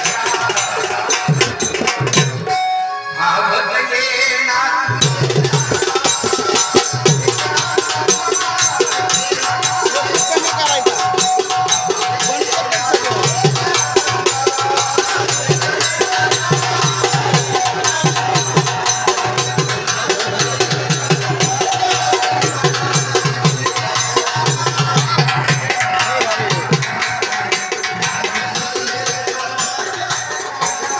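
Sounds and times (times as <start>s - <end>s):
hand drum rhythm: 0.0s - 2.5s, 5.0s - 30.9s.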